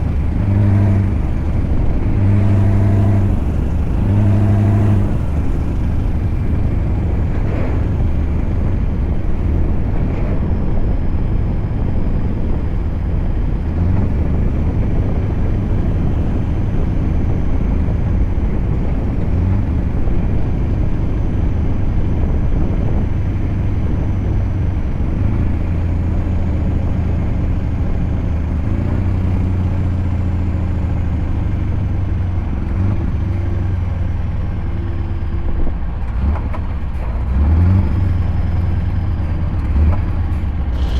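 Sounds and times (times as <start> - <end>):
diesel truck engine drone: 0.0 - 40.9.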